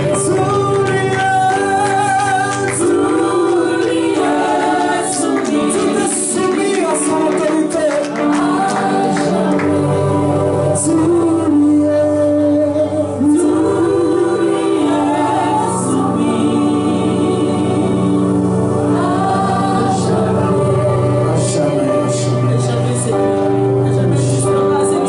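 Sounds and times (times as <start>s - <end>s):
low steady accompaniment: 0.0s - 25.0s
voices singing gospel song: 0.0s - 25.0s.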